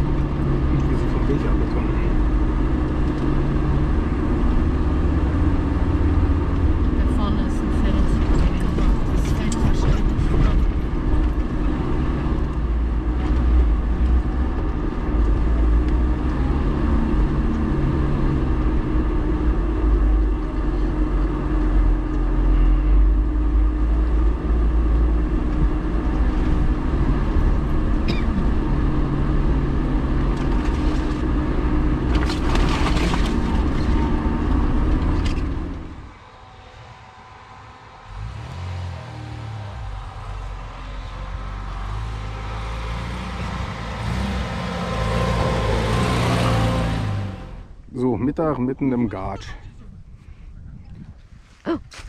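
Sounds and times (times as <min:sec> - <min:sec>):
distant vehicle engine approaching: 0:00.0 - 0:49.6
off-road vehicle engine rumbling: 0:00.0 - 0:52.0.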